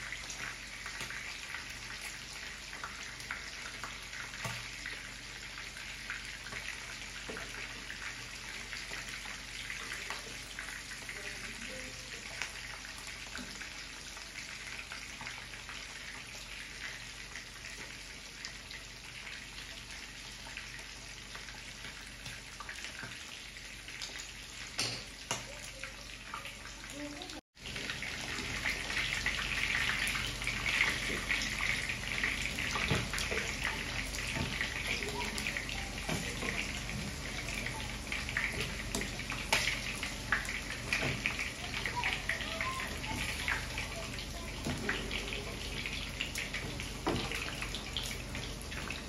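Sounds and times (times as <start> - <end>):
meat sizzling in hot oil: 0.0 - 49.0.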